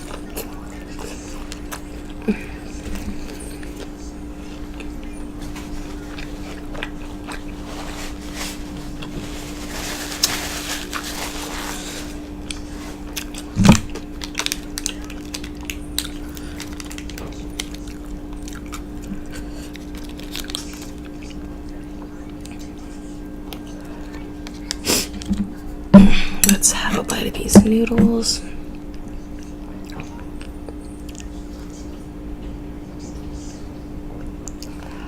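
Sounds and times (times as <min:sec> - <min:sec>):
chewing and crunching food: 0:00.0 - 0:25.7, 0:28.6 - 0:32.6, 0:34.2 - 0:35.0.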